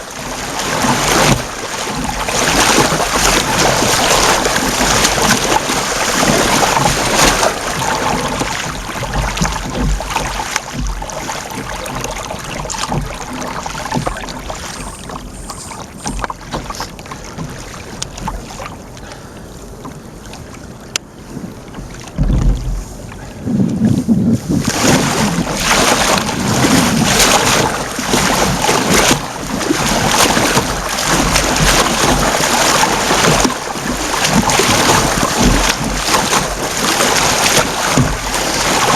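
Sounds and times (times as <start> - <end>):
water splashing around kayak: 0.0 - 38.9
wind buffeting microphone: 0.0 - 38.9.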